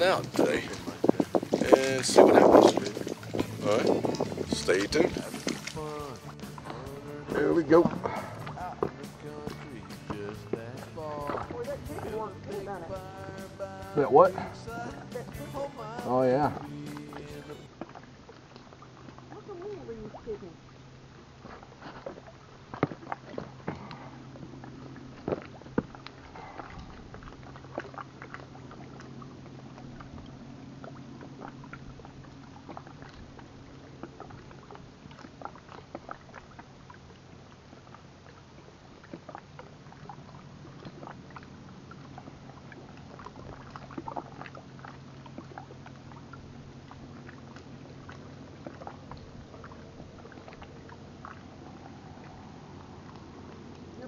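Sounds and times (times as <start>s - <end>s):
distant motorboat humming: 0.0s - 54.0s.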